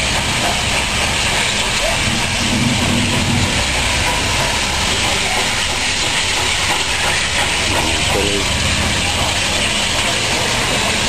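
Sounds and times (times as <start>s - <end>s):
steam locomotive rumble and hiss: 0.0s - 11.0s.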